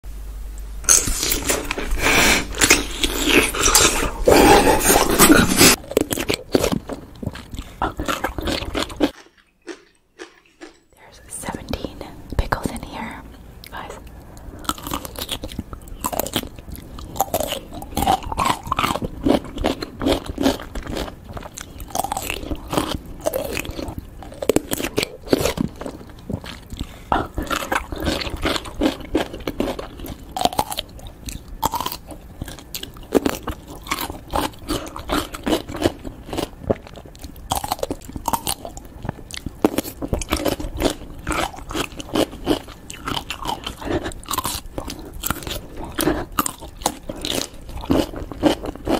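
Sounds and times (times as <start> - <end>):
crunchy chewing of pickles: 0.8 - 48.9.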